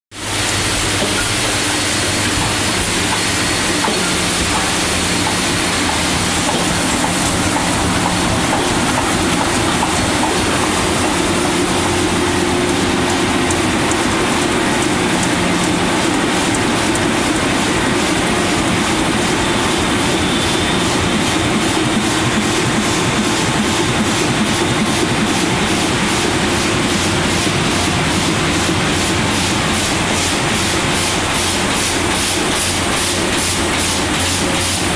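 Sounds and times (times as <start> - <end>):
printing press running with clicking: 0.1 - 34.9.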